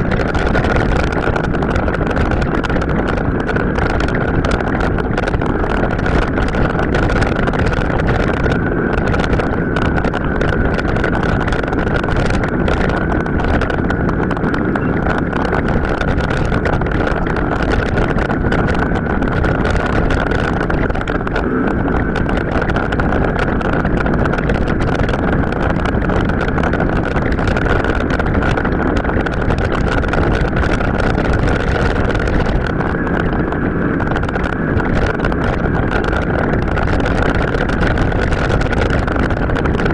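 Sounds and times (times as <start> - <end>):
bike rumbling off-road: 0.0 - 39.9
steady high whine: 0.0 - 39.9
wind buffeting: 0.0 - 39.9.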